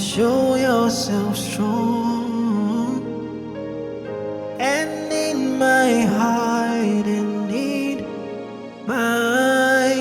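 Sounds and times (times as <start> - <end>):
sustained backing chords: 0.0 - 10.0.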